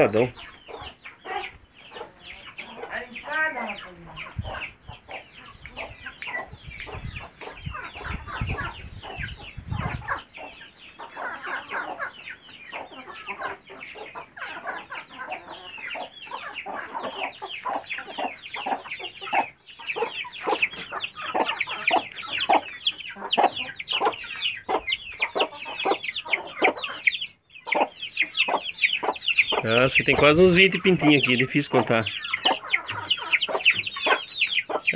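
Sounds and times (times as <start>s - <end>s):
chicks peeping: 0.0s - 34.9s
hens clucking: 0.0s - 34.9s.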